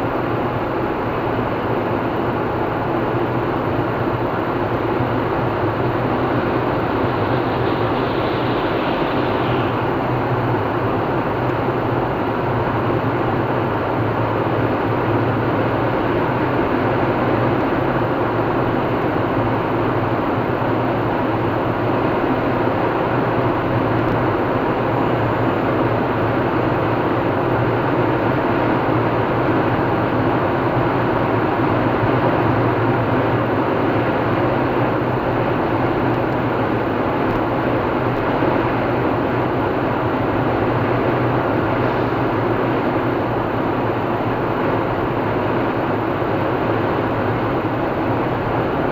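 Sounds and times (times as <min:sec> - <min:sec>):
low engine hum: 0:00.0 - 0:48.9.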